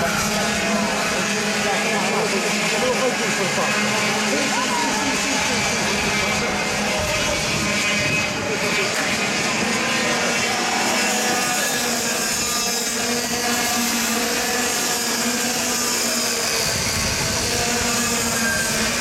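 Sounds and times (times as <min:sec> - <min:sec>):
kart engines buzzing: 0:00.0 - 0:19.0.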